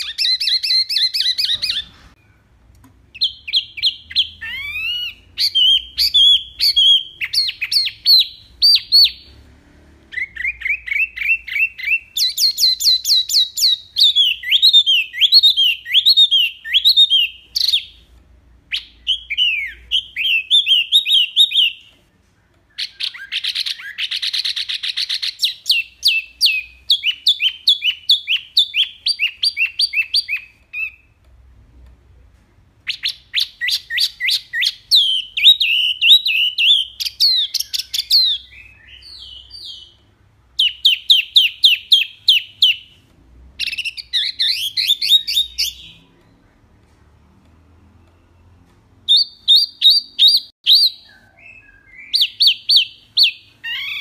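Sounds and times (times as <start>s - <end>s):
songbird whistling: 0.0s - 2.5s, 3.2s - 9.2s, 10.1s - 18.0s, 18.6s - 31.2s, 32.8s - 43.0s, 43.6s - 46.1s, 48.0s - 54.0s.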